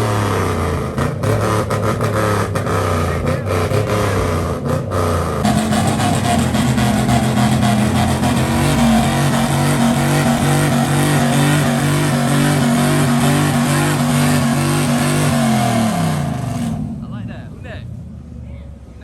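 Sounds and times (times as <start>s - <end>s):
loud car engine revving: 0.0s - 19.0s.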